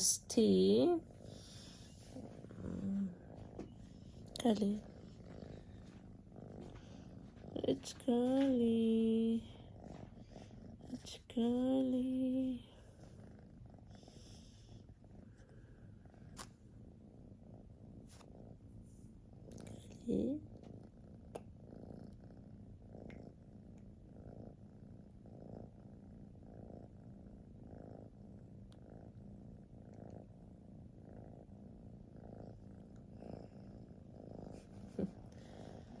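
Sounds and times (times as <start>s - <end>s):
kitten purring: 0.0s - 36.0s.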